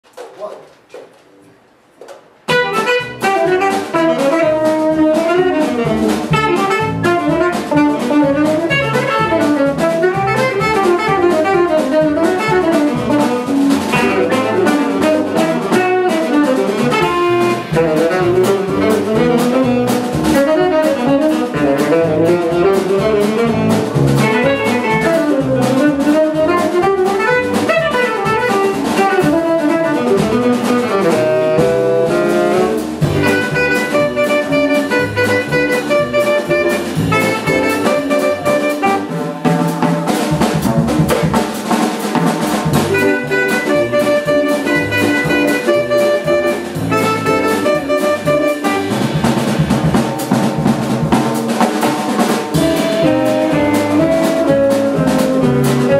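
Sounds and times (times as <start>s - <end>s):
drum kit: 2.0s - 55.9s
saxophone: 2.5s - 40.1s, 42.8s - 49.6s, 52.5s - 55.9s.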